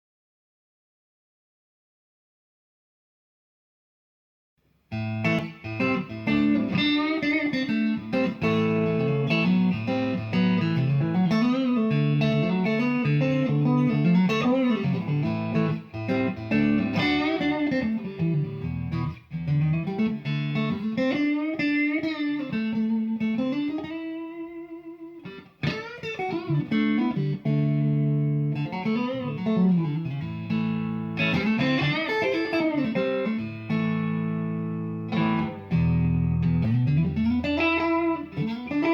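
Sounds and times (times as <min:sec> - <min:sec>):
electric guitar lead line: 0:04.9 - 0:38.9.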